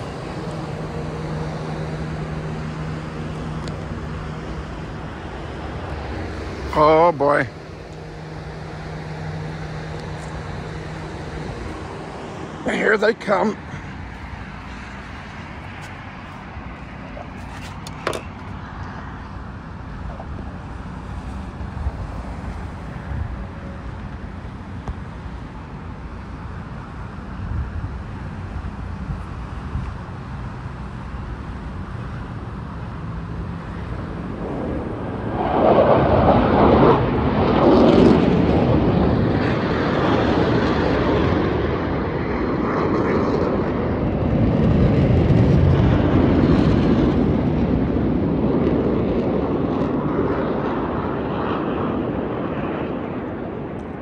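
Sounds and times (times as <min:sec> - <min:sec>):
jet aircraft roar: 0:00.0 - 0:54.0.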